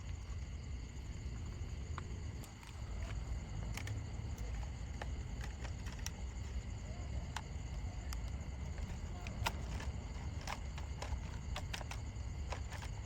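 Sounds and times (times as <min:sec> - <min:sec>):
light clicks and taps: 0:01.0 - 0:13.0.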